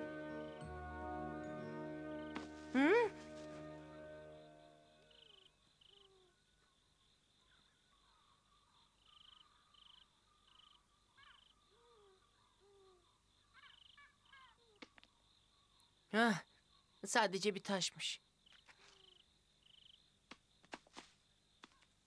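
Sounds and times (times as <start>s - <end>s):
insect chirps: 2.2s - 22.0s.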